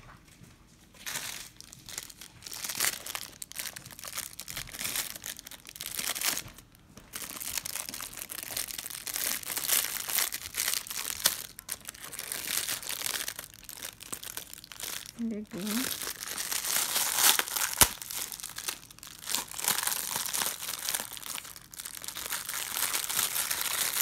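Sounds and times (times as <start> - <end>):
packaging crinkling and tearing: 1.0 - 24.0.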